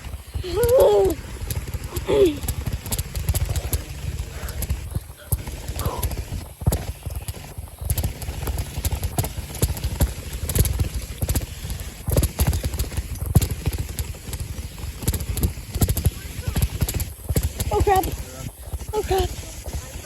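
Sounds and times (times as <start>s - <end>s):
bicycle clattering over rough ground: 0.0s - 20.0s.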